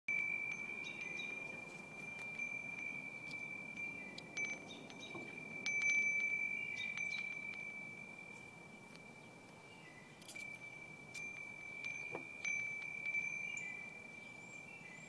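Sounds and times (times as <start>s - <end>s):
steady ringing tone: 0.1s - 14.7s
wind chime bells tinkling: 0.1s - 15.0s.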